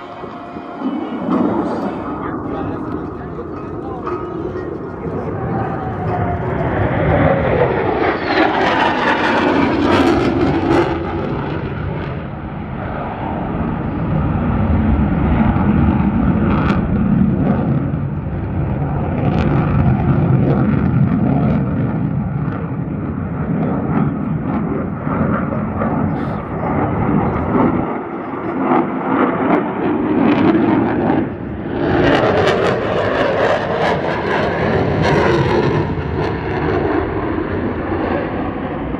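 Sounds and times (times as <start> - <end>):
deep jet rumble: 0.0 - 38.9
jet engine crackles: 0.0 - 38.9
jet engine whine falling: 0.0 - 38.9.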